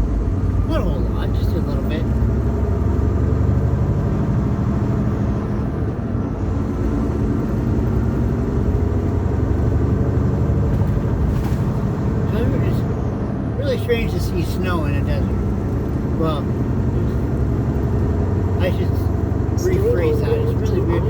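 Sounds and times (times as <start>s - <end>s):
truck engine and road drone: 0.0s - 21.0s.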